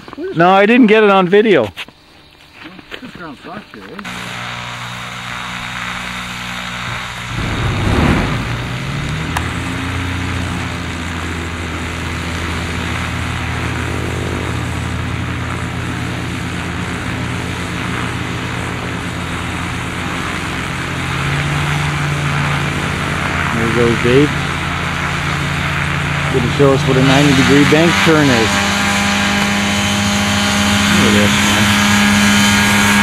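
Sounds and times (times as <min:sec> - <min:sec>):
light airplane engine and propeller: 0:02.3 - 0:33.0.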